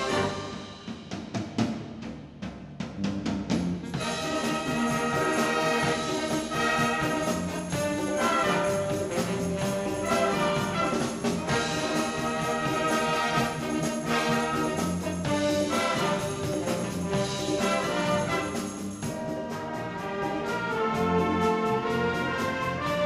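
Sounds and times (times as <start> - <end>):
wind band playing: 0.0 - 1.0, 3.8 - 23.0
percussion beat: 0.0 - 2.0, 3.4 - 23.0.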